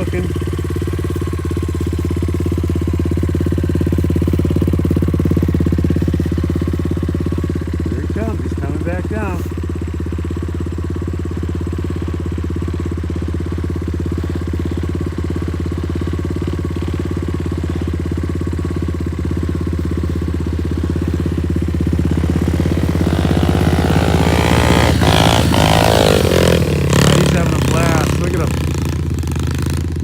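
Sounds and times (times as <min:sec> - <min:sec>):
pit bike engine revving: 0:00.0 - 0:30.0.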